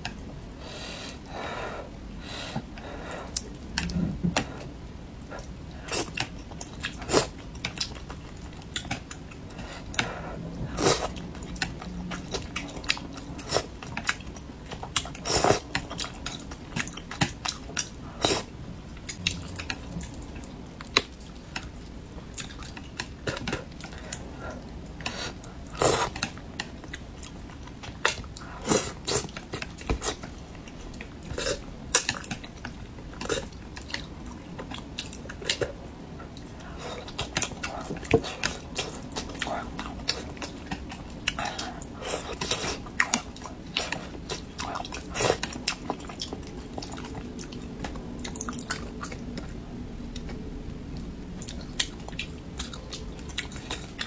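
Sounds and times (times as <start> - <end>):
person chewing wetly: 2.6 - 54.0.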